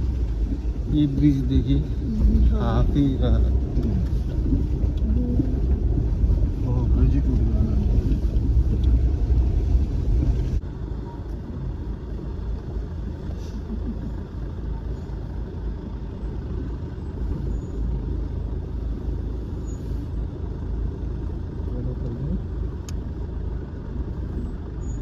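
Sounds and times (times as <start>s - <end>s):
car engine and tyres rumbling: 0.0s - 25.0s.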